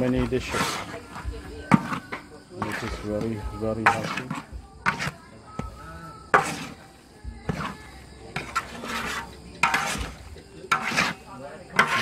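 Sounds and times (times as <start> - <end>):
spatula scraping a steel wok: 0.0 - 12.0.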